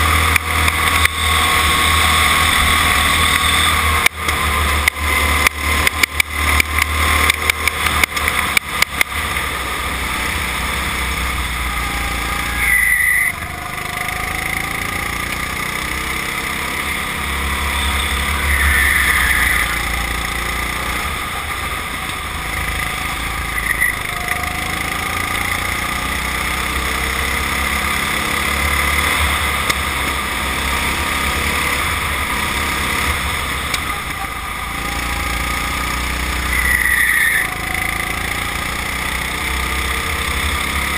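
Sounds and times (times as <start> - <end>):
go-kart engine: 0.0 - 40.9.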